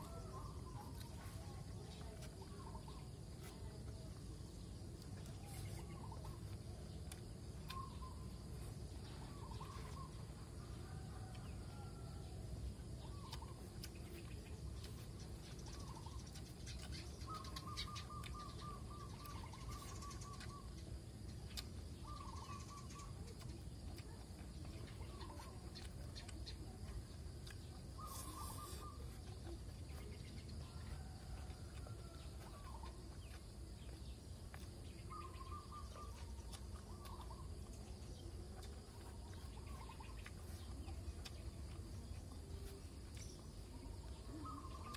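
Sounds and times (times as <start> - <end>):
low background noise: 0.0 - 44.9
birds chirping: 4.5 - 12.0, 13.0 - 44.9.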